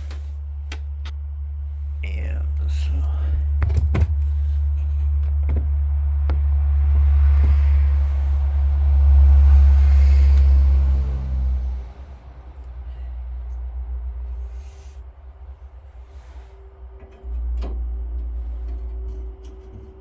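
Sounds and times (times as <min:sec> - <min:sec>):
small engine rumbling: 0:00.0 - 0:20.0.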